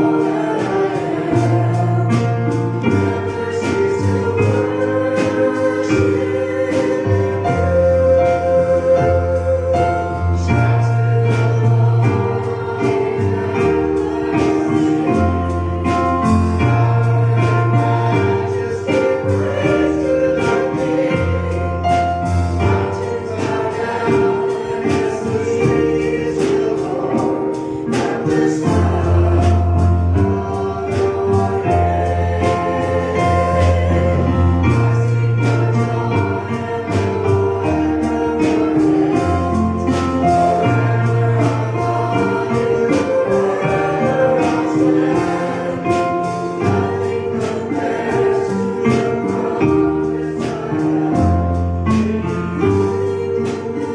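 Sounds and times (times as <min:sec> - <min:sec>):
choir singing with instruments: 0:00.0 - 0:53.9.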